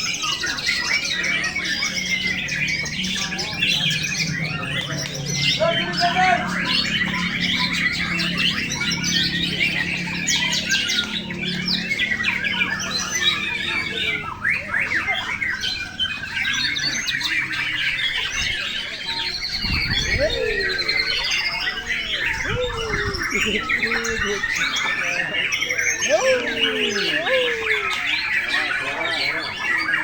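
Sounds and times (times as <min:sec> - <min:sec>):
birds singing whistles and trills: 0:00.0 - 0:30.0.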